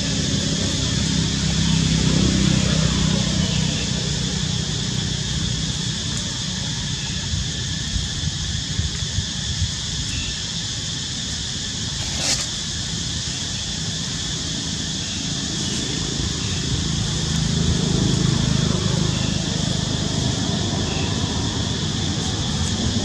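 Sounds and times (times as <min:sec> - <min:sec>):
aircraft engine rumble: 0:00.0 - 0:23.0.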